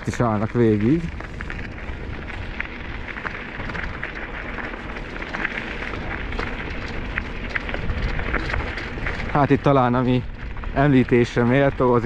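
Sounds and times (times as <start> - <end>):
stones crunching: 0.0 - 12.0
tyres rolling on gravel: 0.0 - 12.0
wind rushing over microphone: 0.0 - 12.0.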